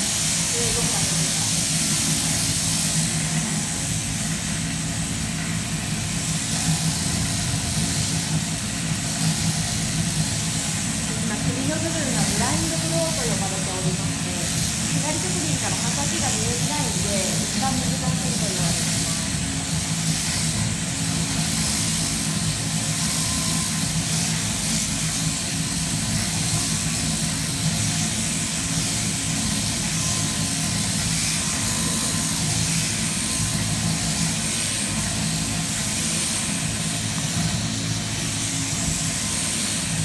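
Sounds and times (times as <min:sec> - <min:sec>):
electric shearing handpiece humming: 0:00.0 - 0:40.0.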